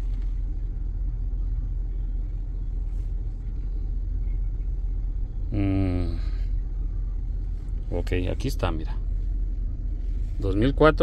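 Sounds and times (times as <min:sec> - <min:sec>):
engine idling low rumble: 0:00.0 - 0:11.0.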